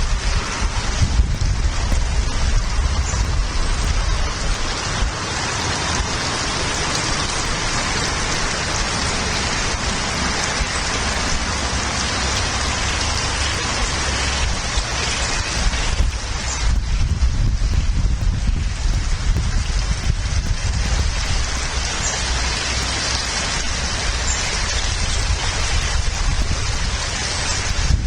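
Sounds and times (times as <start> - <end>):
rain falling: 0.0 - 28.0
wind rumble on microphone: 0.0 - 28.0.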